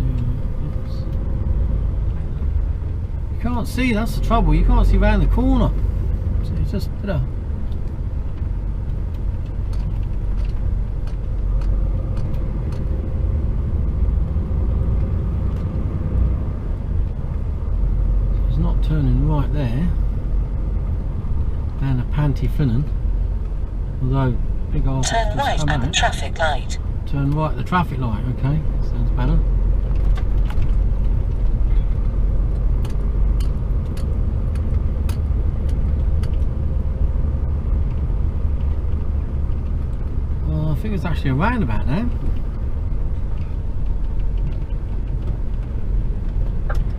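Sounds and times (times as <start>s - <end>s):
road noise: 0.0s - 46.9s
truck diesel engine from cab: 0.0s - 46.9s.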